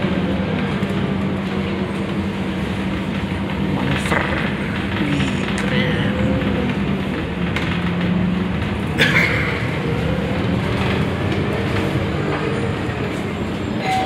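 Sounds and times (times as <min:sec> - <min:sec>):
bus engine and road drone: 0:00.0 - 0:13.9
bus body rattling: 0:00.1 - 0:14.0.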